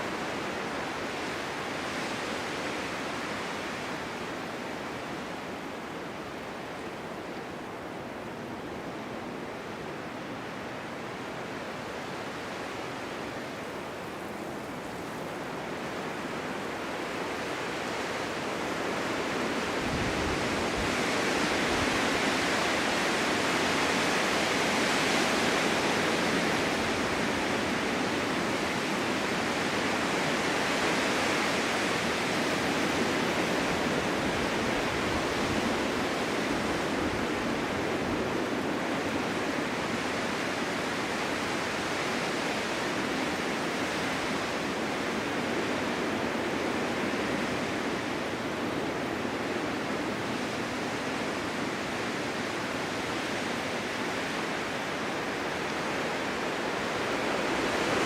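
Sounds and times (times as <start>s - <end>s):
wind blowing through forest: 0.0s - 58.0s.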